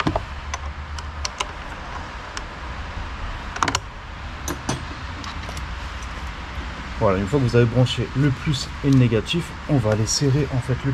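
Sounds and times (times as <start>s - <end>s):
low steady rumble: 0.0s - 10.9s.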